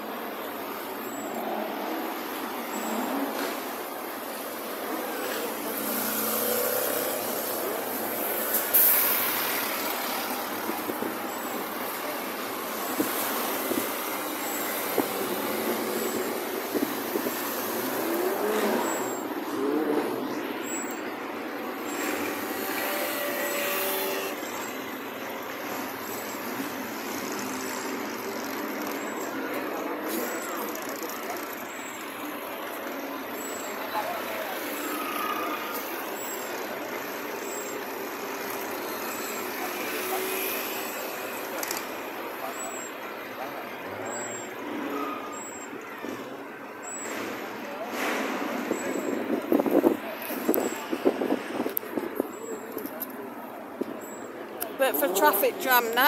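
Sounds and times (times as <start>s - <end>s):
cars driving past: 0.0s - 56.0s
slow traffic engine noise: 0.0s - 56.0s.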